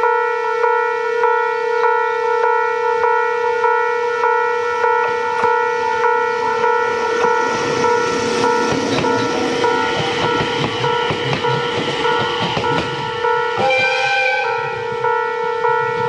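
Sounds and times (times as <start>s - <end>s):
crossing warning bell ringing: 0.0s - 16.0s
train running past: 0.6s - 16.0s.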